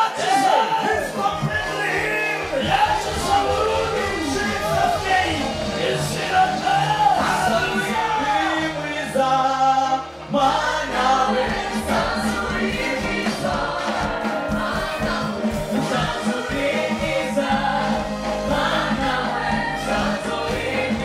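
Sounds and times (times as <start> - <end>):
gospel choir singing: 0.0 - 21.0
instrumental accompaniment with bass: 0.2 - 21.0.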